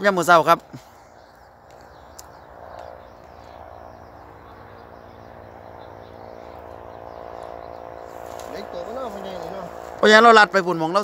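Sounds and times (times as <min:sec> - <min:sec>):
steady hum: 0:00.0 - 0:11.0
faint bird chirps: 0:00.7 - 0:09.7.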